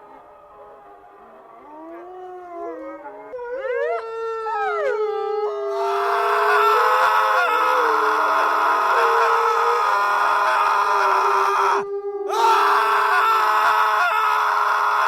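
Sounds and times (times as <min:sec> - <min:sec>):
eerie canine-like howling: 0:00.0 - 0:15.0.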